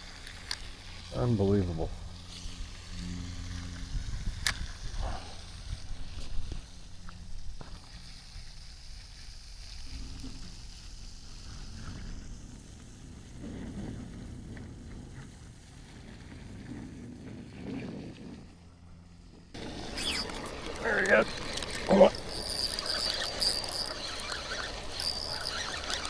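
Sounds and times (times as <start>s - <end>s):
wind buffeting microphone: 1.1s - 7.6s, 10.1s - 26.0s.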